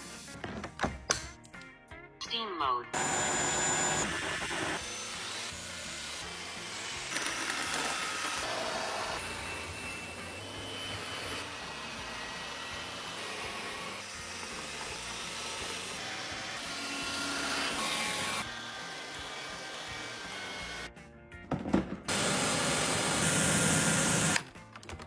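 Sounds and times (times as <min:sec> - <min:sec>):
floor vacuum motor whirring: 0:03.0 - 0:20.9, 0:22.1 - 0:24.4.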